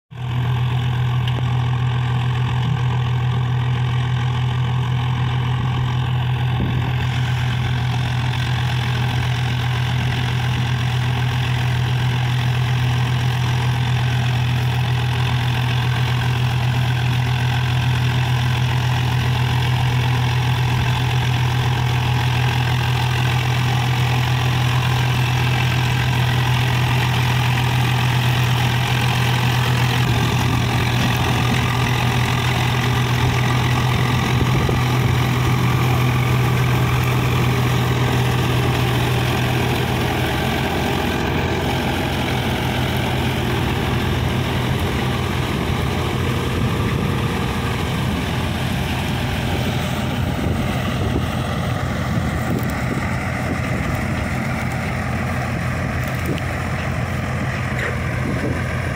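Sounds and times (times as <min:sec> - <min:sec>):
tractor diesel engine running: 0:00.1 - 0:58.9.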